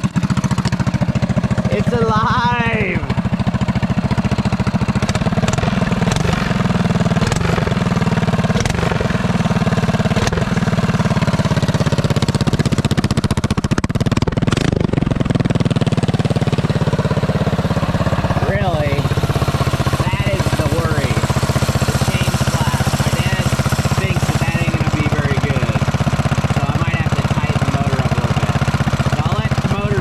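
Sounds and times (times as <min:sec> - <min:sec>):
small engine idling: 0:00.0 - 0:30.0.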